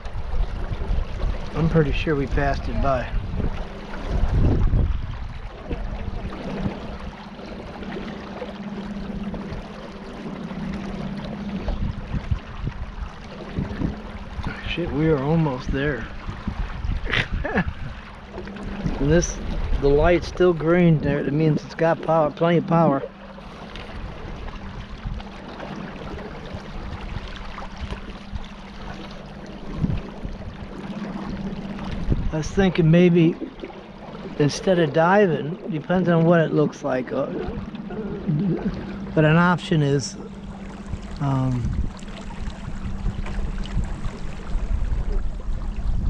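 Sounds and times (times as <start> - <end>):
boat motor humming: 0.0 - 46.0
water washing along hull: 0.0 - 46.0.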